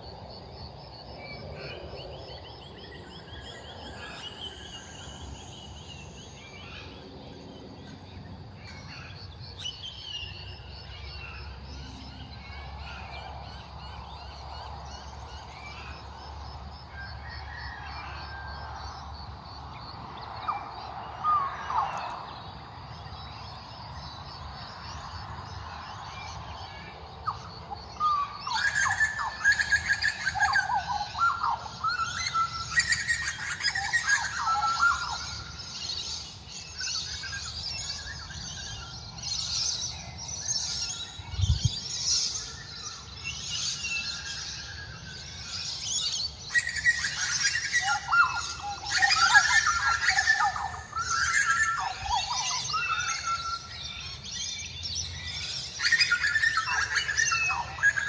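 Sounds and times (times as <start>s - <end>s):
birds calling with fluty notes: 0.0s - 58.0s
birds chirping in dawn chorus: 0.0s - 58.0s.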